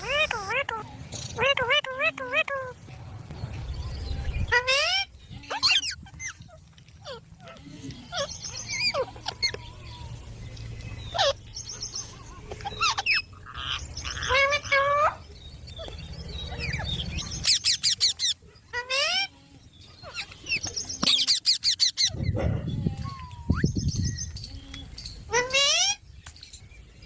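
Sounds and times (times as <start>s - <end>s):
parrots chirping and squawking: 0.0s - 26.1s.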